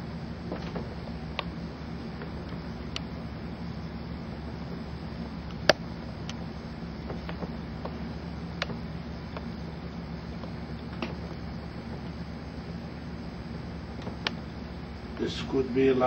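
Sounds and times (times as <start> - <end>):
low fan-like hum: 0.0 - 16.0.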